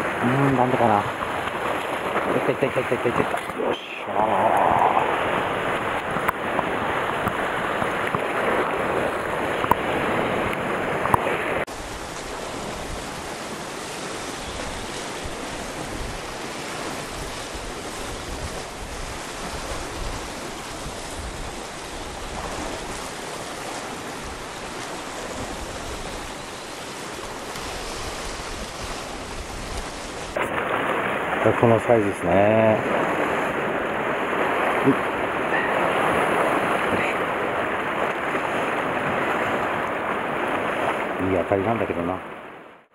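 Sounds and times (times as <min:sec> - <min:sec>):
wind on microphone: 0:00.0 - 0:31.7, 0:32.3 - 0:41.3
surf washing against rocks: 0:00.0 - 0:42.9.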